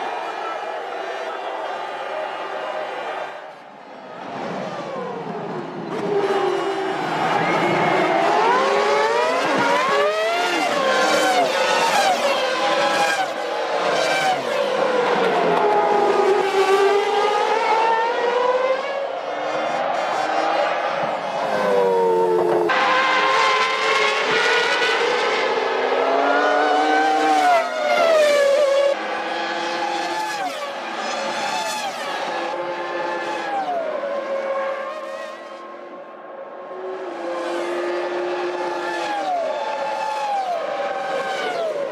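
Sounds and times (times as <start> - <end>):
racing car engines passing: 4.1 - 41.9.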